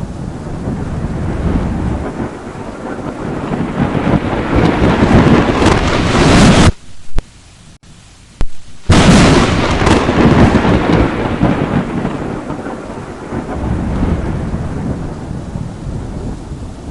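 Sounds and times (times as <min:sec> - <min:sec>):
thunderclap rumbling: 0:00.0 - 0:07.4, 0:08.4 - 0:16.9.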